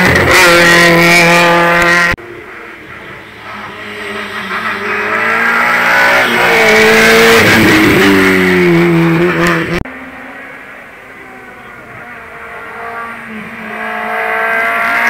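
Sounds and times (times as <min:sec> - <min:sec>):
distant car engine: 0:00.0 - 0:15.0
race car engine accelerating: 0:00.0 - 0:15.0.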